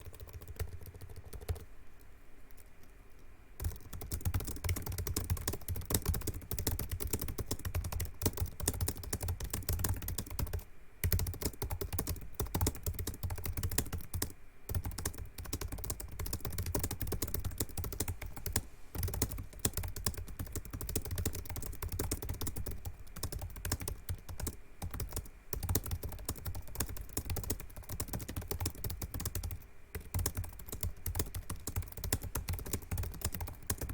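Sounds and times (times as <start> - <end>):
laptop keyboard typing: 0.0 - 2.9, 3.6 - 33.9.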